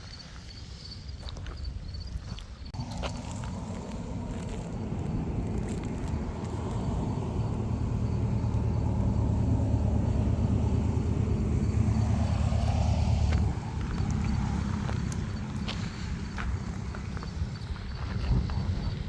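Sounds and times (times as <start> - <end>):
vehicle engine rumbling: 2.6 - 19.0.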